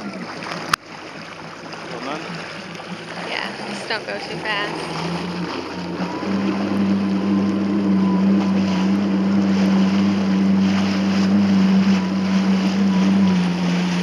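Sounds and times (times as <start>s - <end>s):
jet ski engine running: 0.0s - 14.0s
water rushing: 0.0s - 14.0s.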